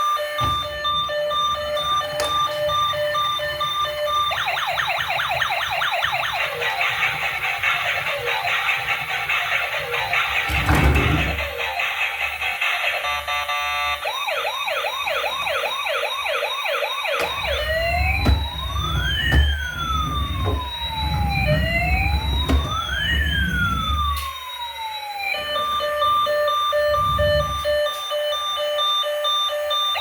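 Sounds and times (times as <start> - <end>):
toy siren: 0.0 - 30.0.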